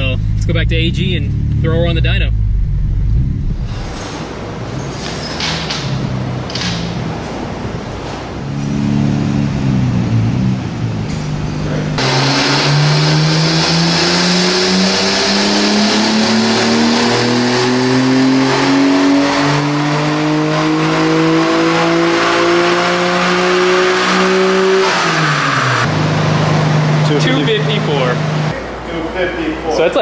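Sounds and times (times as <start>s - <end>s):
car engine revving at full throttle: 0.0s - 4.1s, 5.7s - 28.6s.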